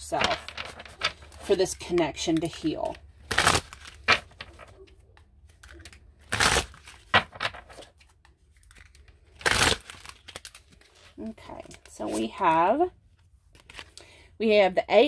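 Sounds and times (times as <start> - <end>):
cards shuffling: 0.0 - 12.6, 13.5 - 14.0.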